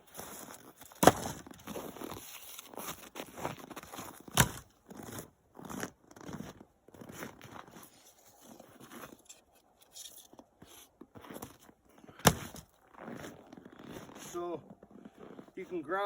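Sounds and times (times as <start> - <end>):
wood scraping and crunching: 0.0 - 15.7.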